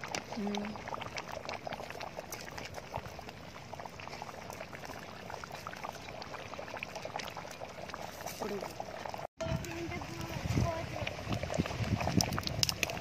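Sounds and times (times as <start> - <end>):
curry bubbling in metal pot: 0.0 - 13.0.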